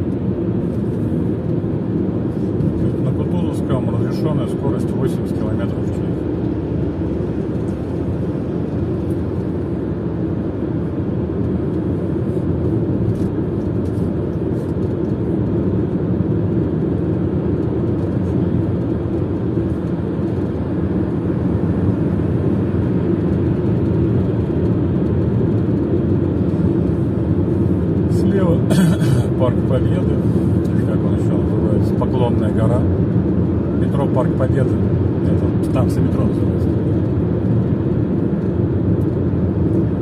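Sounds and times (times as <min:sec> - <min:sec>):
road and engine rumble inside car: 0:00.0 - 0:40.0.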